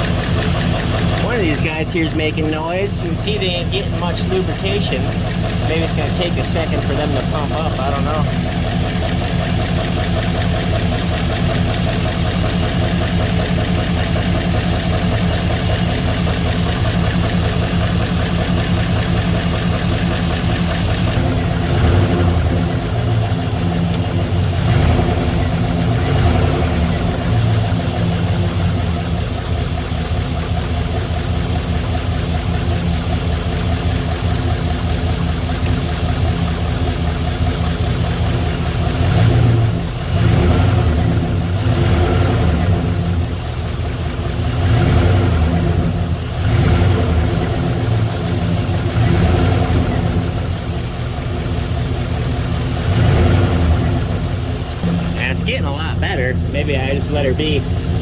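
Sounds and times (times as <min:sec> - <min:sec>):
engine revving: 0:00.0 - 0:29.9, 0:31.0 - 0:58.0
car engine idling: 0:00.0 - 0:58.0
fast engine ticking: 0:00.0 - 0:58.0.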